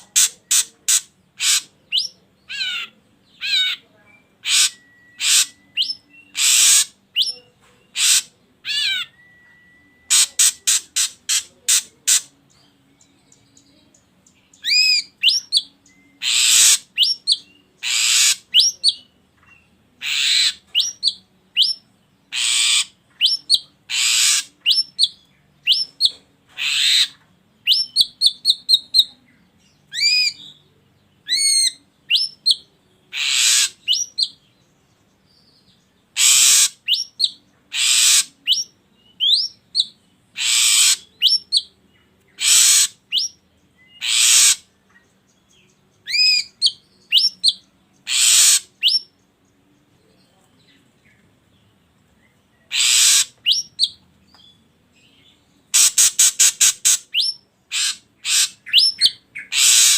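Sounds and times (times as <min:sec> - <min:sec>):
drongo calling: 0:00.0 - 0:12.7, 0:13.5 - 0:34.5, 0:36.1 - 0:51.3, 0:52.1 - 0:54.4, 0:55.2 - 0:59.9.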